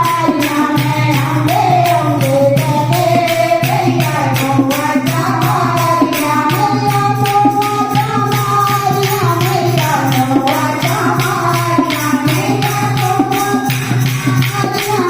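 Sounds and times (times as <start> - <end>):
jingling hand percussion: 0.0 - 15.0
person singing: 0.0 - 15.0.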